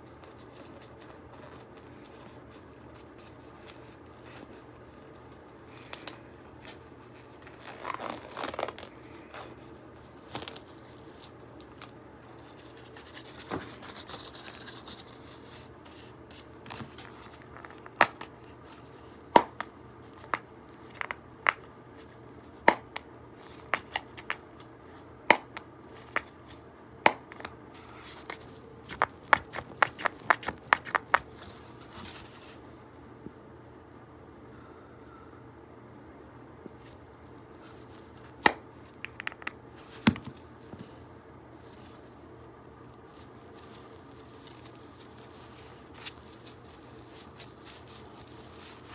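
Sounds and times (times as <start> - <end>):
gloves and packaging rustling: 0.0 - 32.8, 36.7 - 48.9.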